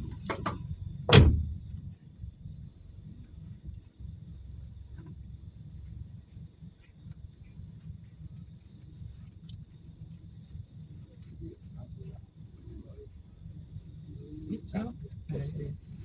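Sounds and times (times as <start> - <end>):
insects trilling: 0.0 - 16.0
low uneven rumble: 0.0 - 16.0.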